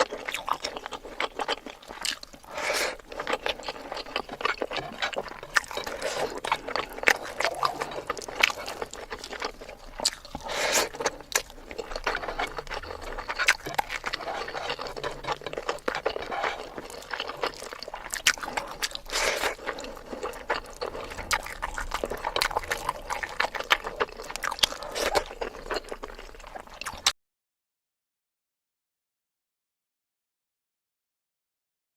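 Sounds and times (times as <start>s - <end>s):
person chewing and smacking: 0.0s - 27.1s.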